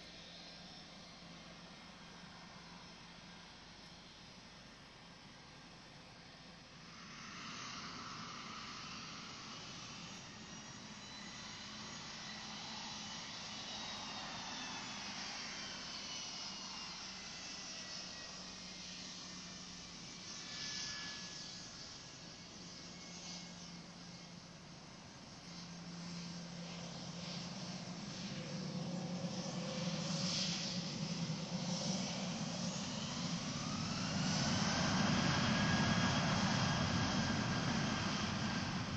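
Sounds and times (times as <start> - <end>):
jet engines whining while taxiing: 0.0 - 38.9.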